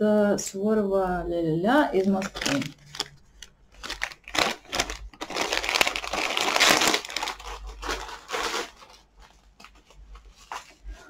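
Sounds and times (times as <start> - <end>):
plastic mailing bag crinkling: 1.9 - 11.0.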